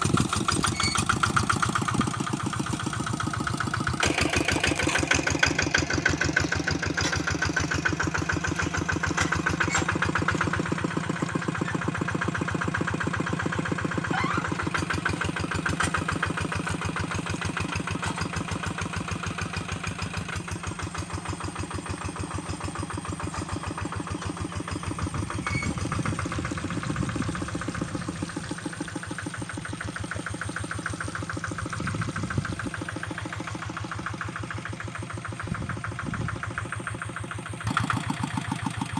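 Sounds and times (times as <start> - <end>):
hand tractor engine running: 0.0 - 38.9.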